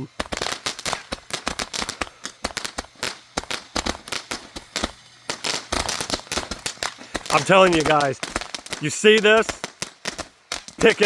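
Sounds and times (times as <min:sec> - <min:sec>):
fireworks popping rapidly: 0:00.0 - 0:11.0.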